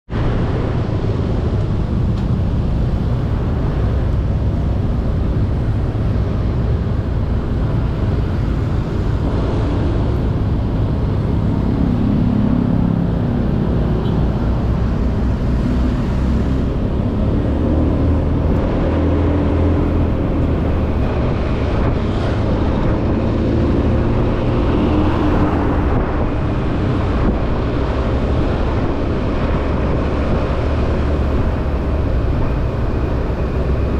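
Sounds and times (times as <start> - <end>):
wind rushing over microphone: 0.1 - 33.9.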